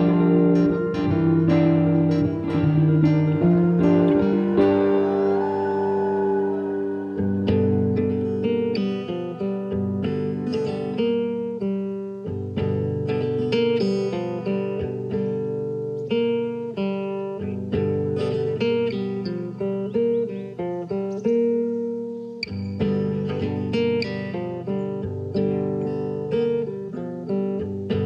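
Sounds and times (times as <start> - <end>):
plucked guitar notes: 0.0 - 28.0.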